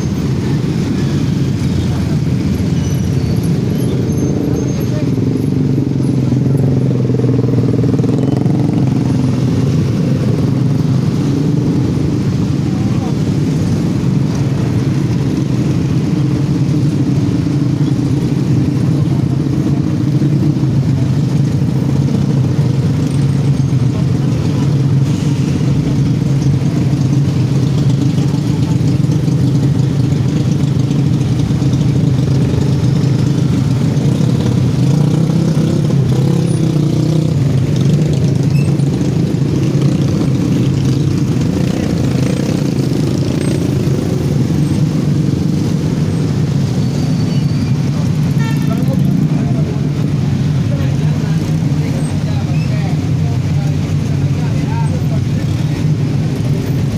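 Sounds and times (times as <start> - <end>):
motorcycles engine drone: 0.0 - 56.9.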